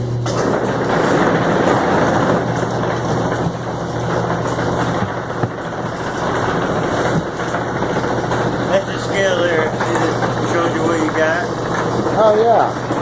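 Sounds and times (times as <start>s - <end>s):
farm machinery engine droning: 0.0s - 13.0s.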